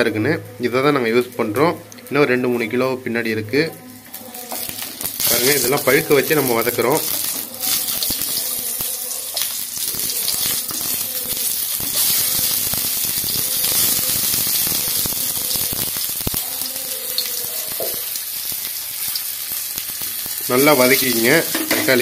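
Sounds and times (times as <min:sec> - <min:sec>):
tomatoes sizzling in oil: 0:00.0 - 0:22.0.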